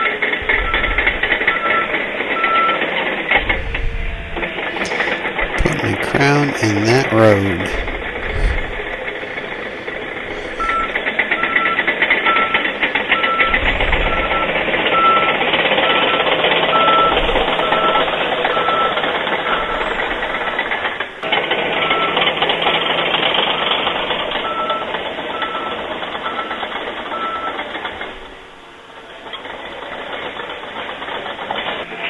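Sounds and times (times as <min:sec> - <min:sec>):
backup alarm beeping: 0:00.0 - 0:22.3, 0:23.5 - 0:27.6
diesel engine running: 0:00.0 - 0:32.0.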